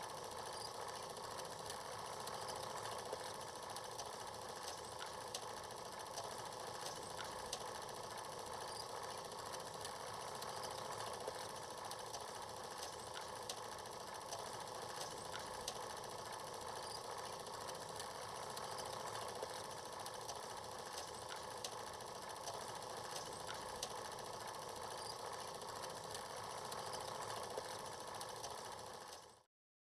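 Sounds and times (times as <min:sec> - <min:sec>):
film projector whirring: 0:00.0 - 0:29.5.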